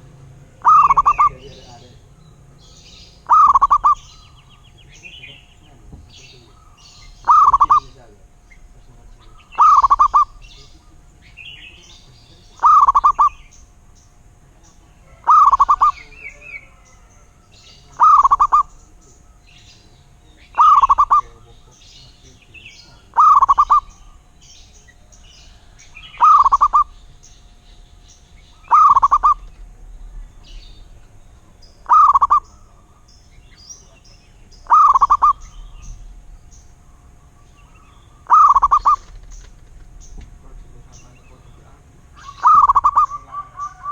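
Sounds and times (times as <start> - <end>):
dove cooing: 0.0 - 43.9
small birds chirping: 0.0 - 43.9.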